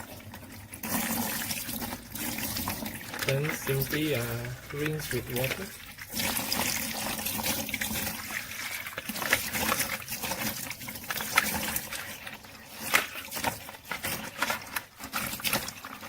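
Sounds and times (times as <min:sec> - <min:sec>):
tap water splashing on plastic: 0:00.0 - 0:16.0.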